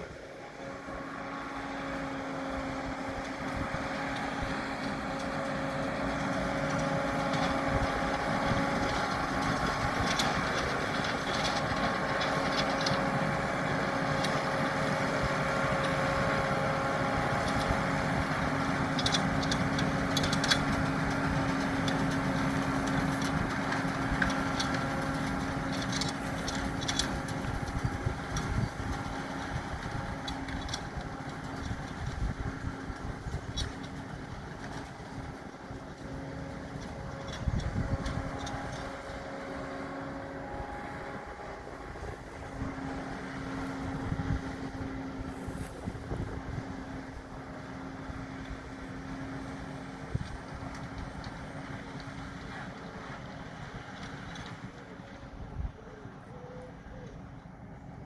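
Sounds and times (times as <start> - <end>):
tractor engine running: 0.0 - 58.0
light ticks and rattles: 3.1 - 41.2, 42.4 - 55.2.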